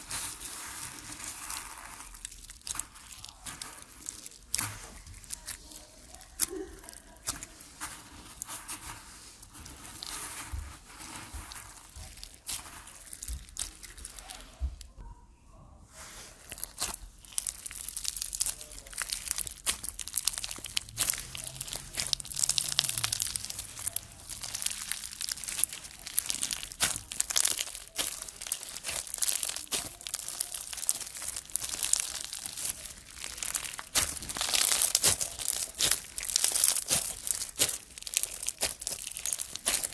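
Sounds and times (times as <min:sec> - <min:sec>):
foam bead slime crackling: 0:00.0 - 0:15.0, 0:16.0 - 0:39.9.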